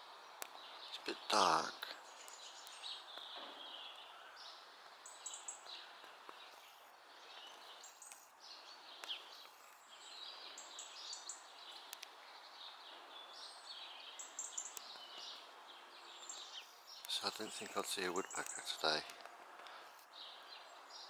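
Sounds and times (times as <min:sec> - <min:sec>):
background hiss: 0:00.0 - 0:21.0
small birds chirping: 0:00.0 - 0:21.0.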